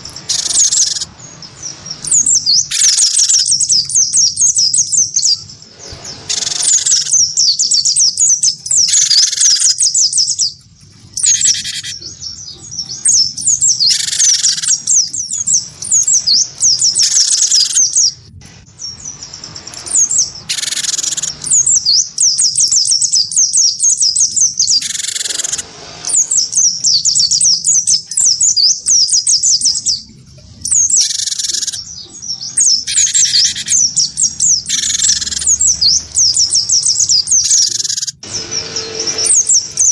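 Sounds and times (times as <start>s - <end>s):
birds twittering: 0.0s - 39.9s
harsh bursts of birdsong: 0.0s - 39.9s.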